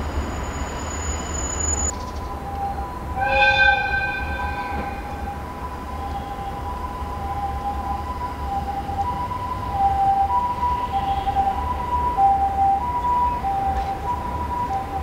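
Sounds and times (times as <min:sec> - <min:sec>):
distant two-tone ambulance siren: 0:00.0 - 0:15.0.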